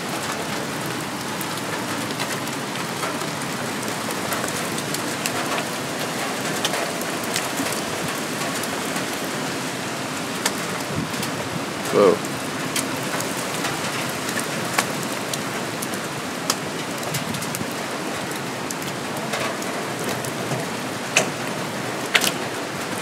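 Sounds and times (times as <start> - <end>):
heavy rain hiss: 0.0 - 23.0
raindrops ticking close by: 0.0 - 23.0.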